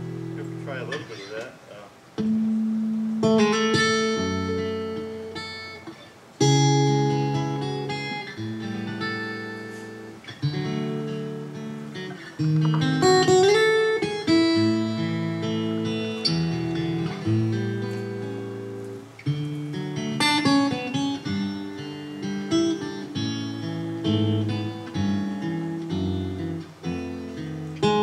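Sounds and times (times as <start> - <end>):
fingerstyle acoustic guitar: 0.0 - 28.0.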